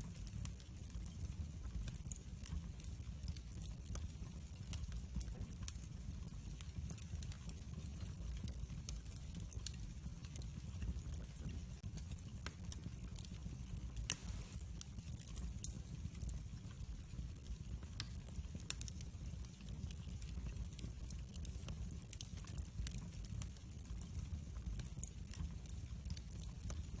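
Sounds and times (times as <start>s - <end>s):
fire crackling and popping: 0.0s - 27.0s
rumble of fire flames: 0.0s - 27.0s.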